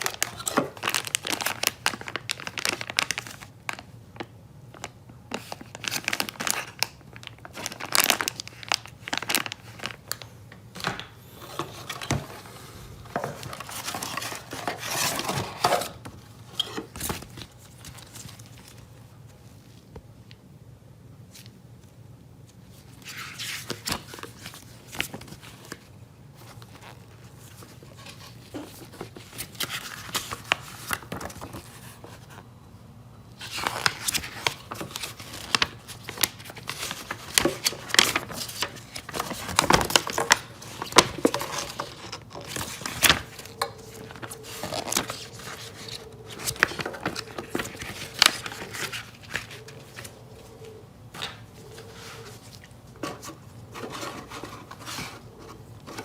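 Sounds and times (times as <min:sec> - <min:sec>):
plastic and paper crinkling: 0:00.0 - 0:20.4, 0:21.3 - 0:32.6, 0:33.3 - 0:56.0.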